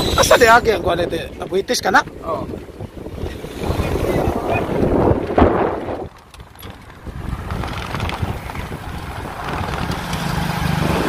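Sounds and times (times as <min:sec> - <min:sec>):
moving vehicle rumble: 0:00.0 - 0:11.0
wind buffeting microphone: 0:00.0 - 0:11.0.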